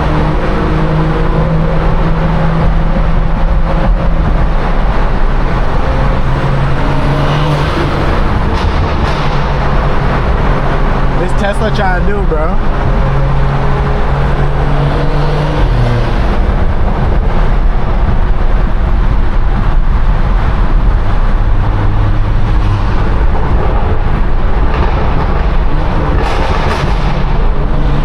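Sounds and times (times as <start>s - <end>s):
car engine droning: 0.0s - 28.0s
road rumble: 0.0s - 28.0s.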